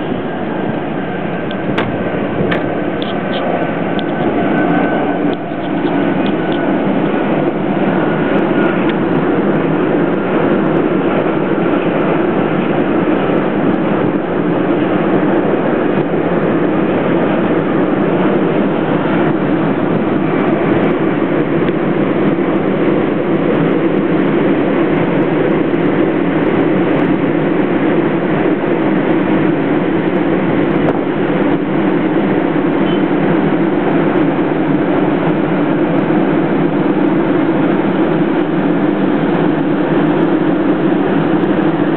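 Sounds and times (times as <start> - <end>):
city traffic din: 0.0 - 41.9.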